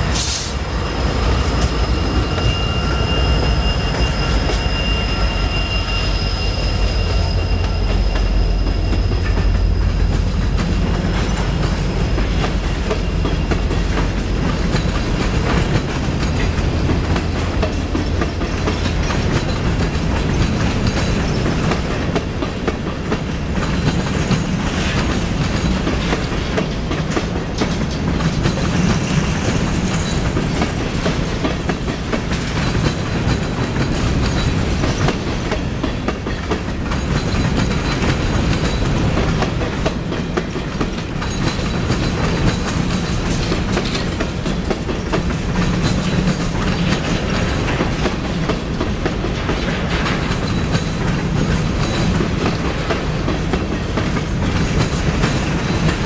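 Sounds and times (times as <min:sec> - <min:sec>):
train wheels clicking on rails: 0:00.0 - 0:56.0.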